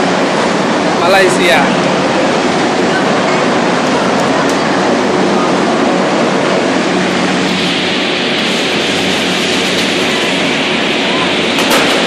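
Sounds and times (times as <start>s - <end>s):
loud rushing noise: 0.0s - 12.0s.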